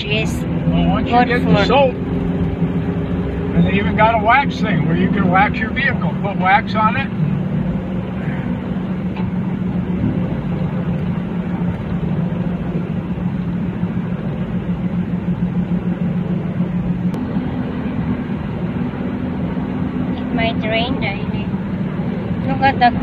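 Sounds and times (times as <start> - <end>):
road noise: 0.0 - 23.0
vehicle engine hum: 0.0 - 23.0.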